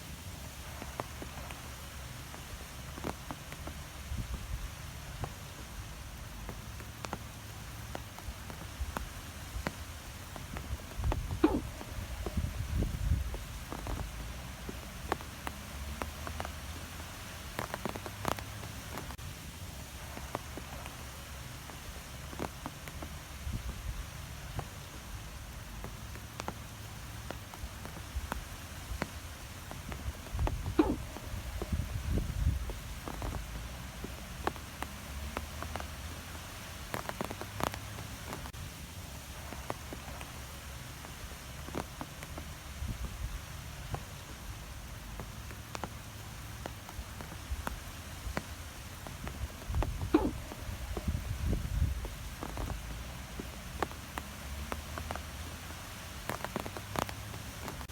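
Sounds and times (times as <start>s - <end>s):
wind rustling through trees: 0.0s - 57.9s
scattered ticks and taps: 5.0s - 19.2s, 20.0s - 38.6s, 39.4s - 57.9s.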